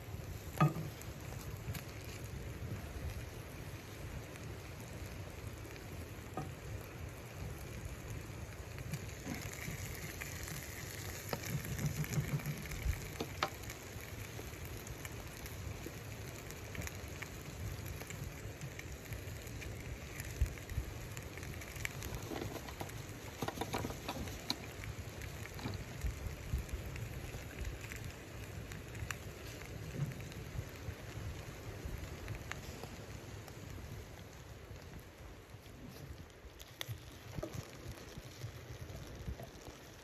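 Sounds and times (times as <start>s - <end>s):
light ticks and crackles: 0.0s - 40.0s
snowstorm wind rumble: 0.0s - 40.0s.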